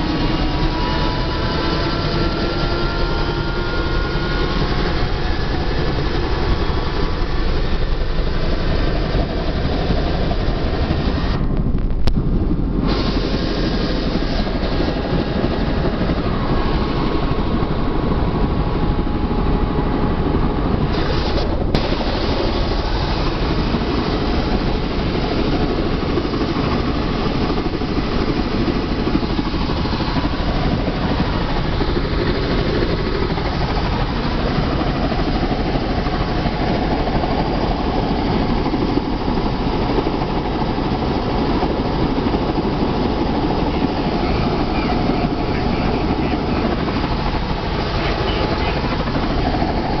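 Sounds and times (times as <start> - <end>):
helicopter engine and rotor: 0.0 - 50.0.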